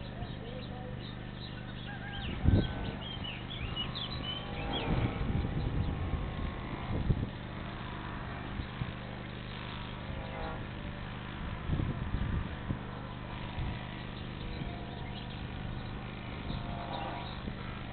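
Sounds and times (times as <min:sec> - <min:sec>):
small birds chirping: 0:00.0 - 0:11.4, 0:12.1 - 0:17.9
steady low hum: 0:00.0 - 0:17.9
low rumbling: 0:01.9 - 0:17.9.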